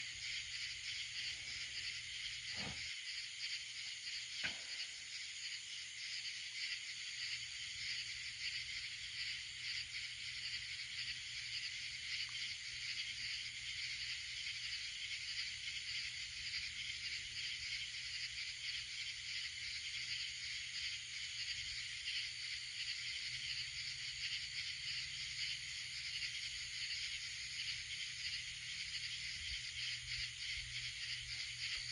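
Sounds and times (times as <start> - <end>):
insects chorus: 0.0 - 31.9.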